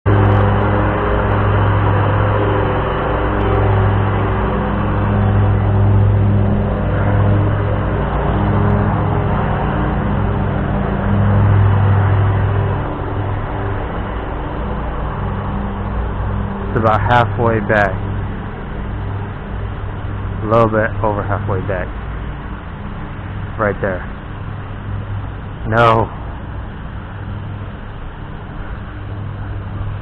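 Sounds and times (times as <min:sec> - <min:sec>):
low mechanical hum: 0:00.1 - 0:30.0.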